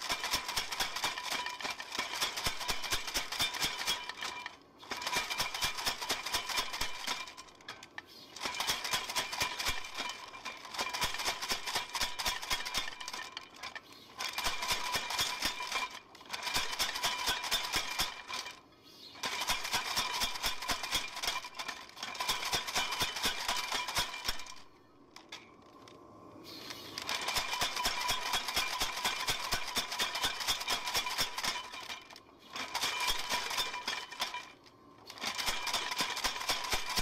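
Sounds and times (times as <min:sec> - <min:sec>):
power hammer pounding steel: 0:00.0 - 0:07.5, 0:08.4 - 0:13.6, 0:14.3 - 0:18.6, 0:19.2 - 0:24.6, 0:27.1 - 0:34.6, 0:35.2 - 0:37.0.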